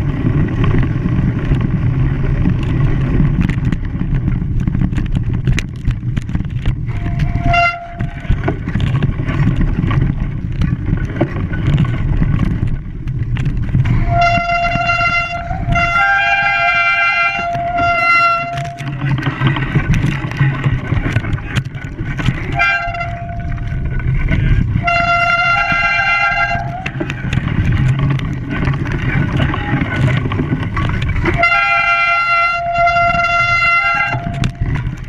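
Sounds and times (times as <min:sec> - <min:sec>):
low rumbling engine: 0:00.0 - 0:35.0.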